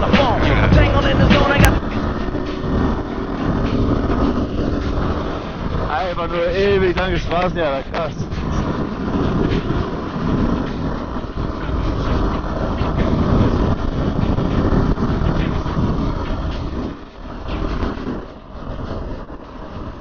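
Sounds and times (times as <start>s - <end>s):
quad bike engine revving: 0.0s - 16.4s.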